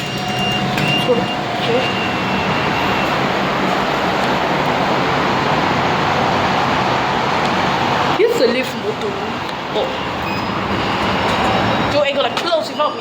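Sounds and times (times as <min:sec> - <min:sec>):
lift machinery rumbling: 0:00.0 - 0:12.8.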